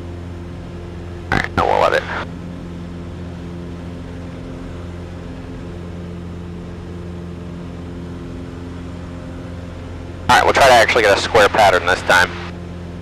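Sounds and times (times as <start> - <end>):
small plane engine drone: 0.0 - 13.0.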